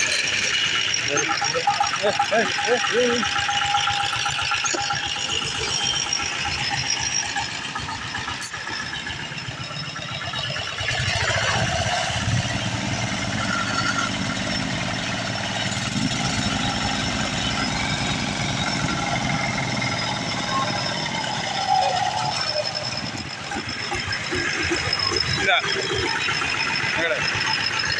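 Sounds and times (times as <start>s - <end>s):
diesel engine knocking: 0.0s - 27.9s.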